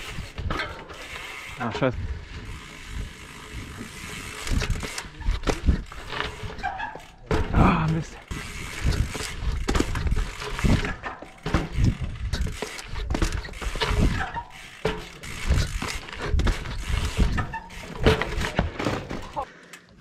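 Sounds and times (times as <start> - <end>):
bike tyres rolling on hard ground: 0.0 - 19.5
bike knocks and thumps: 2.9 - 19.4.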